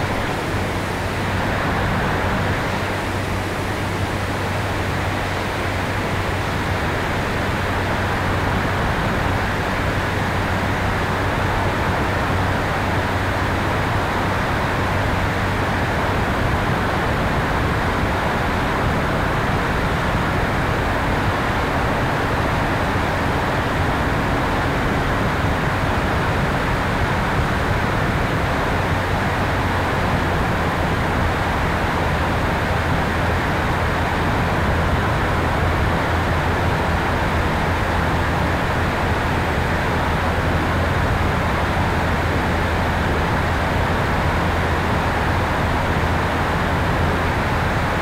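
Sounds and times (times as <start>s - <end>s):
rush of airflow: 0.0s - 48.0s.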